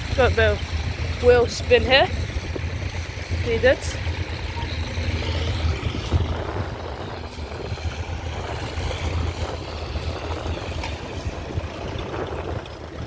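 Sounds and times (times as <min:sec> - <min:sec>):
tractor engine pulling hard: 0:00.0 - 0:13.0.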